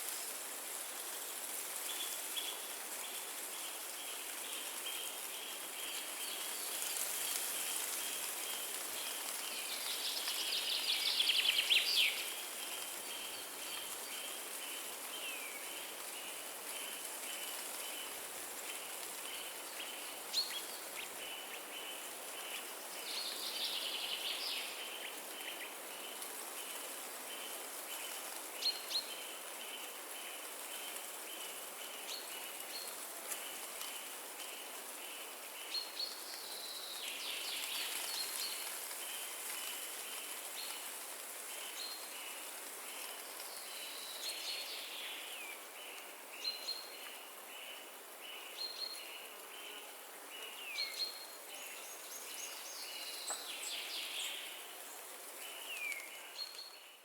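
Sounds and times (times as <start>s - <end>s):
wind in trees: 0.0s - 57.0s.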